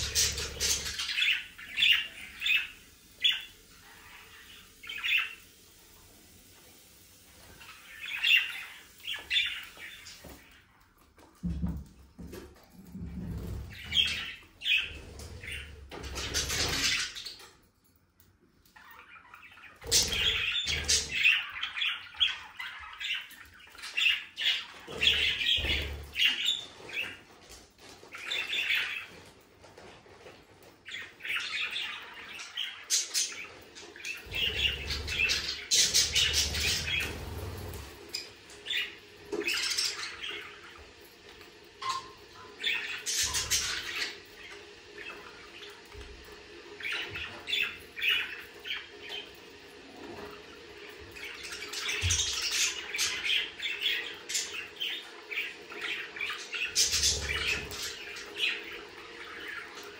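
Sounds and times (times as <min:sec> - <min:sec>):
budgerigars chattering and squawking: 0:00.0 - 0:05.6, 0:07.6 - 0:10.6, 0:13.4 - 0:17.5, 0:18.8 - 0:27.2, 0:28.1 - 0:29.2, 0:30.9 - 0:41.0, 0:41.7 - 0:59.9.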